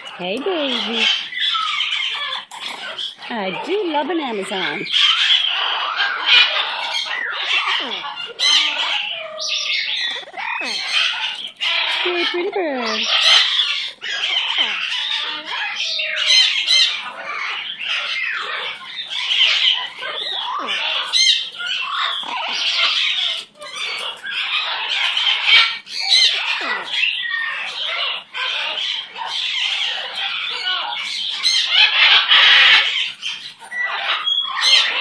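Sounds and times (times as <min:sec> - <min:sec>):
parrot chattering and squawking: 0:00.0 - 0:35.0.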